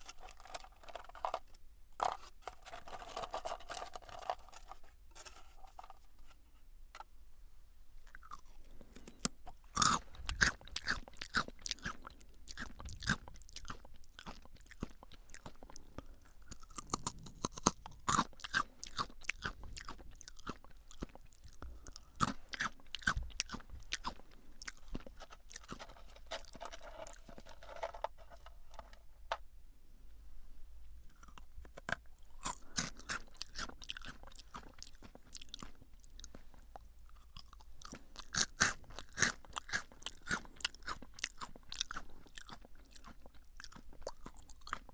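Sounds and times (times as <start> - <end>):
crunchy snack being chewed: 0.0 - 5.4, 8.0 - 27.9, 31.1 - 44.9.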